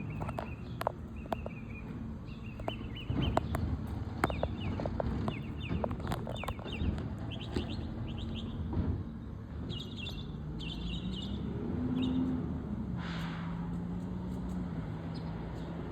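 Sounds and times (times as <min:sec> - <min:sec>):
small birds chirping: 0:00.0 - 0:12.4, 0:14.0 - 0:15.9
engine droning: 0:00.0 - 0:15.9.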